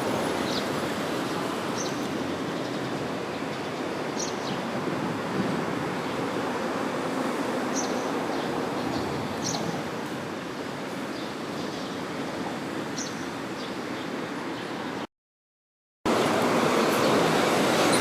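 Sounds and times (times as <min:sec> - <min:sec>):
steady outdoor background rush: 0:00.0 - 0:15.1, 0:16.1 - 0:18.0.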